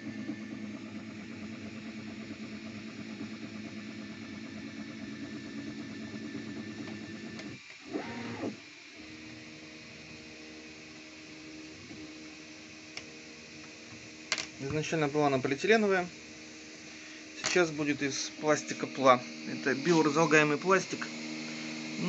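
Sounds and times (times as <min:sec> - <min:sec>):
rising and falling whine: 0:00.0 - 0:07.6, 0:08.3 - 0:22.0
stepper motors humming: 0:00.0 - 0:22.0.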